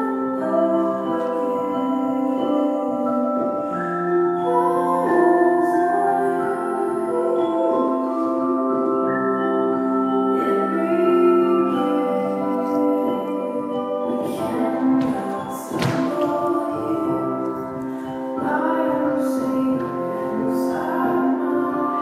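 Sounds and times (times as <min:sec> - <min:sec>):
slow melodic music: 0:00.0 - 0:22.0.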